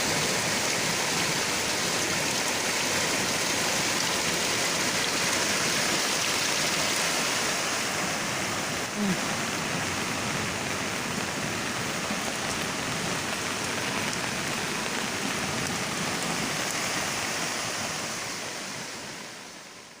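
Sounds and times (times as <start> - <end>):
steady hiss of water: 0.0 - 20.0.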